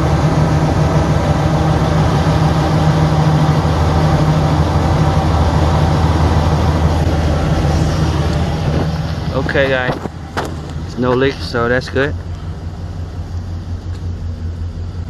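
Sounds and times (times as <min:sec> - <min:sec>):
van engine idling: 0:00.0 - 0:15.0.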